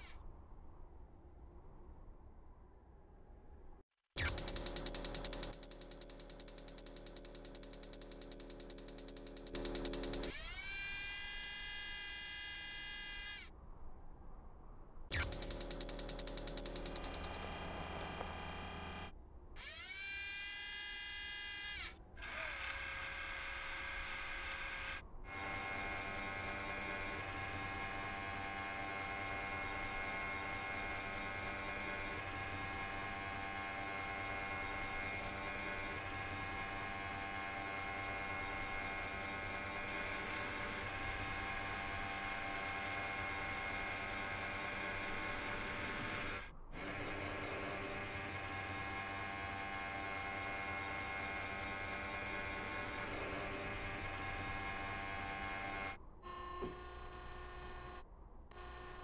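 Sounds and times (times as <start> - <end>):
mechanical whine: 0.0 - 0.2, 4.2 - 13.5, 15.1 - 59.0
electric motor whir: 4.2 - 13.5, 15.1 - 59.0.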